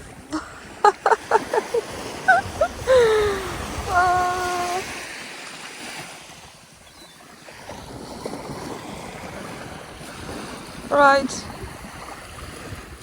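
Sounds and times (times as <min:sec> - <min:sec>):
water lapping: 0:00.0 - 0:13.0
wind noise on microphone: 0:00.0 - 0:13.0.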